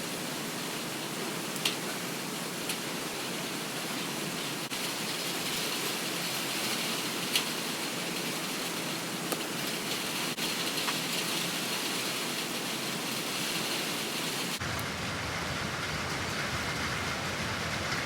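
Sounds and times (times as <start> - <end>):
deeper rain noise: 0.0 - 18.0
steady rain falling: 0.0 - 18.0.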